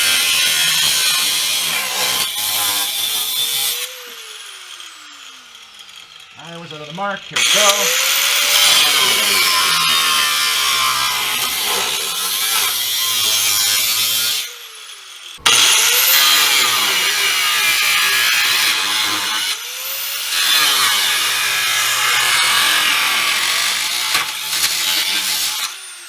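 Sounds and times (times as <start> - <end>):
power saw cutting sheet metal: 0.0 - 26.0.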